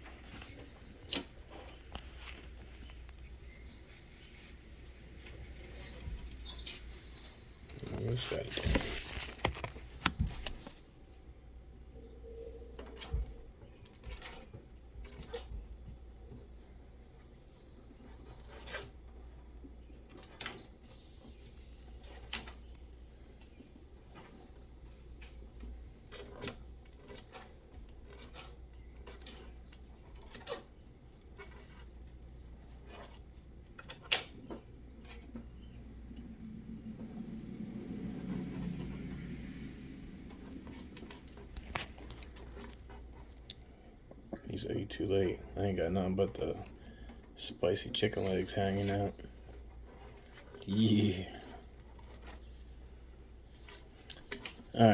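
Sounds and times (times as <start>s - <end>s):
faint rustling and scratching: 0.0s - 54.9s
low steady hum: 0.0s - 54.9s.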